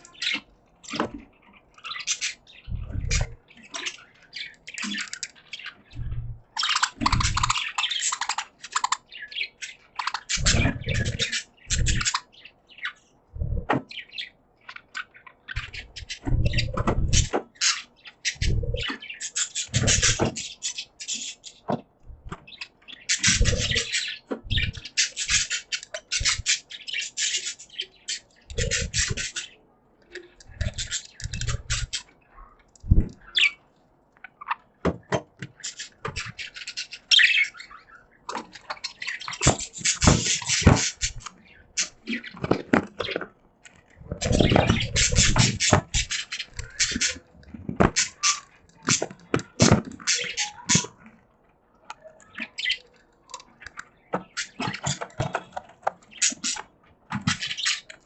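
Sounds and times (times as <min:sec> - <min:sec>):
budgies chattering and warbling: 0:00.0 - 0:58.0.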